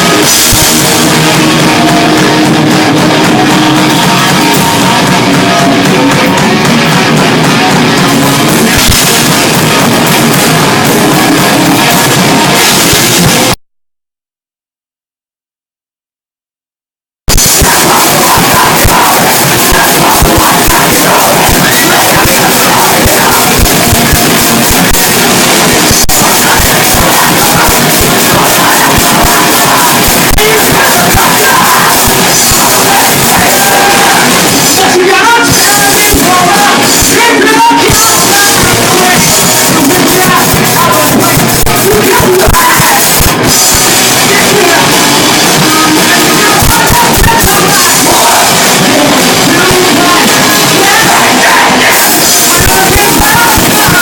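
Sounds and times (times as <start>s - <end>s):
live rock band playing: 0.0s - 13.6s, 17.3s - 54.0s
yelled vocals: 0.0s - 13.6s, 17.3s - 54.0s.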